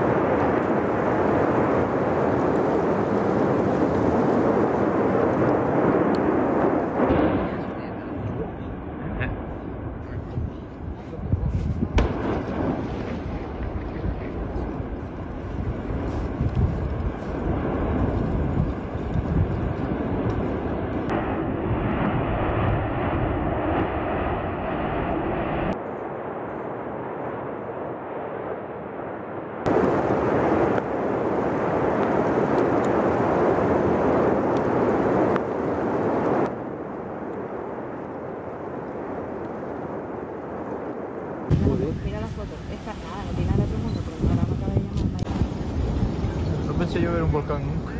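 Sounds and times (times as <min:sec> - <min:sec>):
volcano deep rumble: 0:00.0 - 0:47.9.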